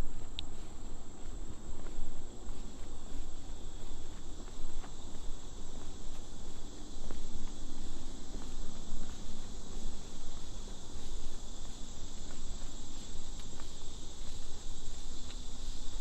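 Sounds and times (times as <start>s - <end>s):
insects chorus: 0.0s - 16.0s.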